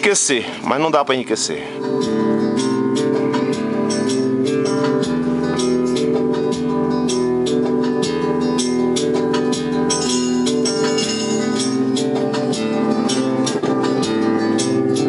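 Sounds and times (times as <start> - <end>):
guitar music with percussion: 1.8 - 15.0.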